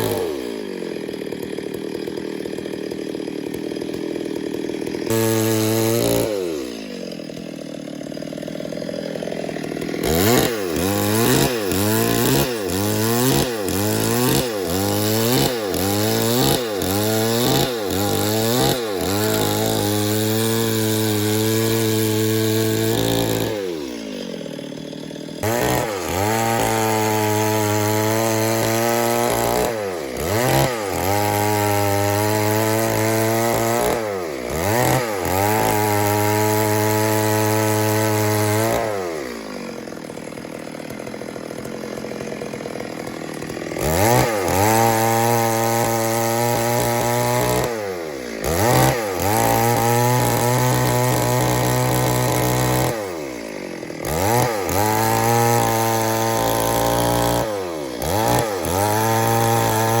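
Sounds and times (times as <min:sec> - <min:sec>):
chainsaw revving and idling: 0:00.0 - 1:00.0.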